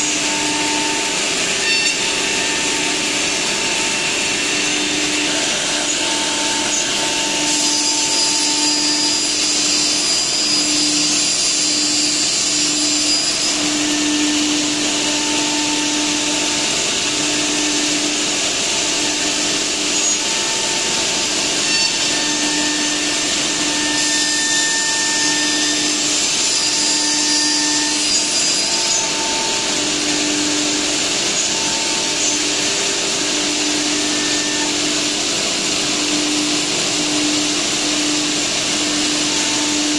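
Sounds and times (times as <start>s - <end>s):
cnc router cutting wood: 0.0s - 39.9s.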